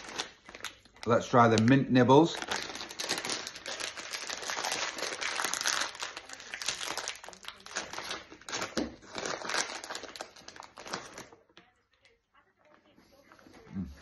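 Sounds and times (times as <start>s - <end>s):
plastic snack packet crinkling: 0.0s - 12.2s.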